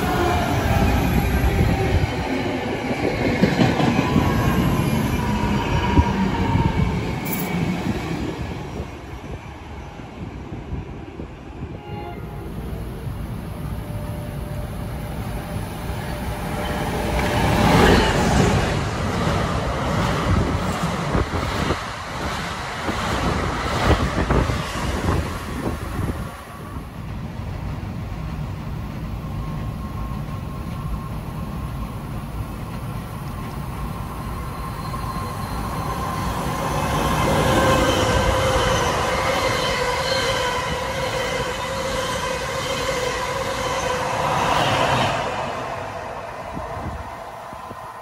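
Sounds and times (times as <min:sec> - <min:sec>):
train rumbling past: 0:00.0 - 0:48.0.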